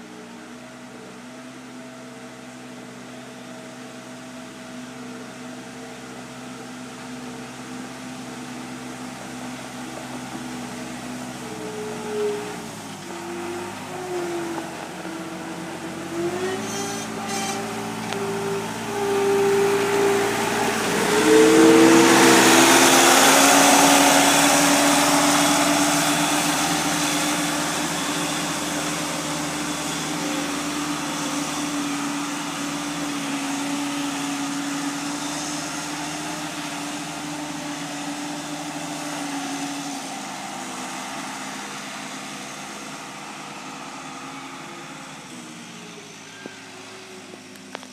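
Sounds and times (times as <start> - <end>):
diesel engine driving past: 5.7 - 47.9.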